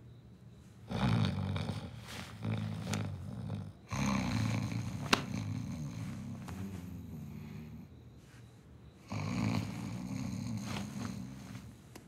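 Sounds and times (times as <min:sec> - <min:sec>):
man snoring: 0:00.9 - 0:07.9, 0:09.0 - 0:11.7.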